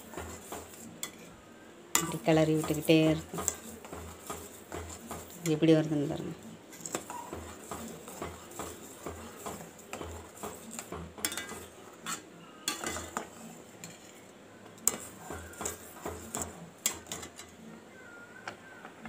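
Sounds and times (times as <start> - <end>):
spoon scraping a metal pot: 0.0 - 1.4, 2.0 - 14.2, 14.8 - 17.6.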